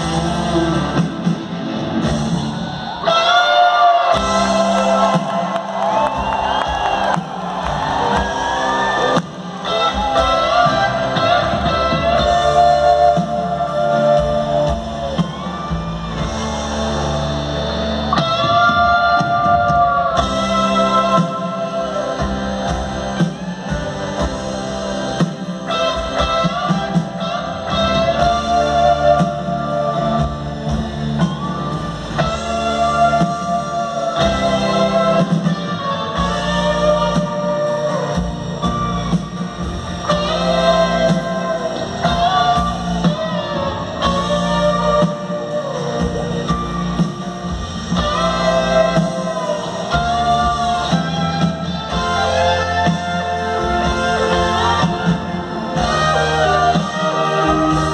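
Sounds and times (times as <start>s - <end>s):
live rock band: 0.0s - 57.9s.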